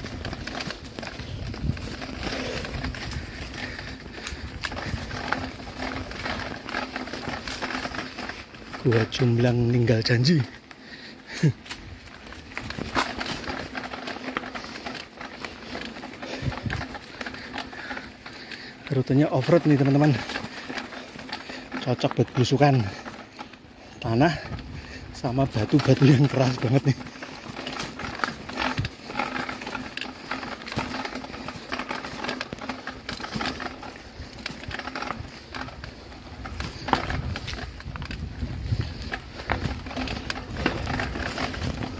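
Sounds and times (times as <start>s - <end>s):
bike rattling: 0.0s - 41.9s
bike tyres crunching on dirt: 0.0s - 41.9s.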